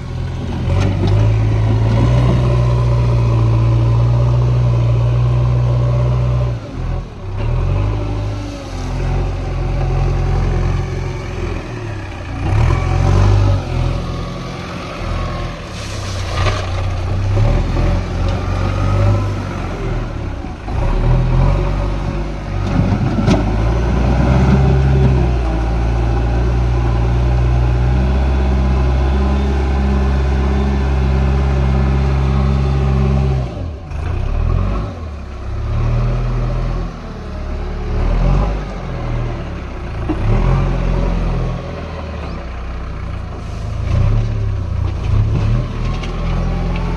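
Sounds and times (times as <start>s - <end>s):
diesel engine revving: 0.0s - 46.9s.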